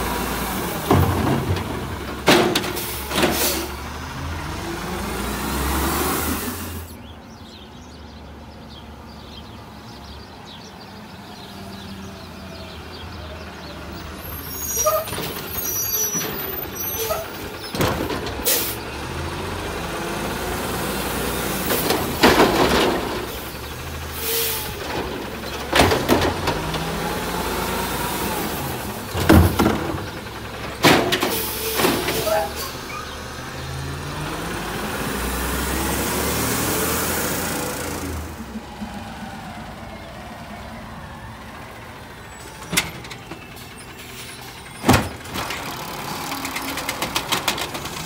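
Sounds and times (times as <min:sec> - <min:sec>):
garbage truck engine running: 0:00.0 - 0:07.0, 0:13.9 - 0:48.0.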